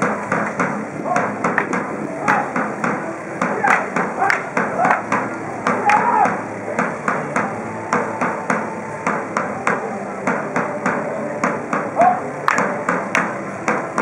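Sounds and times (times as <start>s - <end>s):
drum beaten in steady rhythm: 0.0s - 14.0s.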